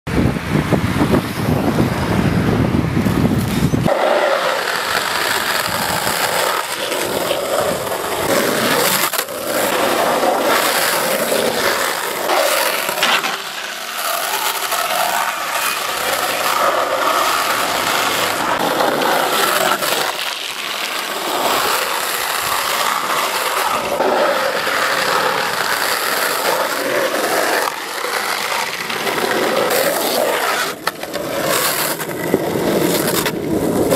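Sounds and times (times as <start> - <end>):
longboard wheels sliding on asphalt: 0.1 - 33.9.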